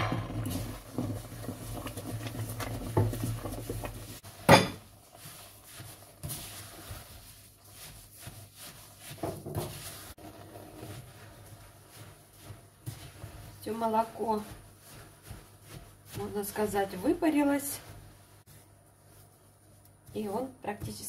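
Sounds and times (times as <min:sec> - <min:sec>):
wooden spoon scraping a pot: 0:00.0 - 0:21.0.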